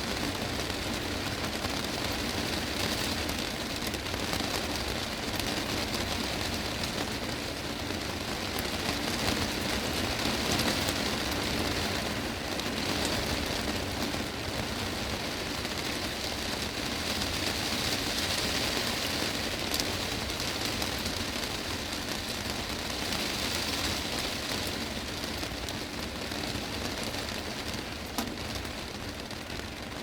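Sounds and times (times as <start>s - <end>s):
heavy rain on glass roof: 0.0s - 30.0s.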